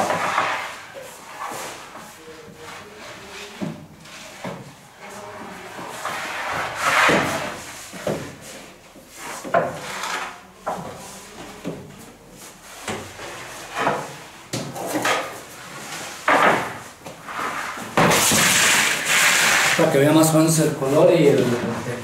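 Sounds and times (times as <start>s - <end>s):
wooden peel scraping oven floor: 0.0s - 11.6s, 12.8s - 22.0s.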